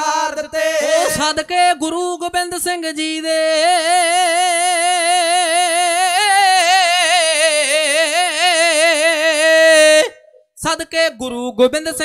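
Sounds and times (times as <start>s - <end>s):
man singing long note with vibrato: 0.0s - 12.0s.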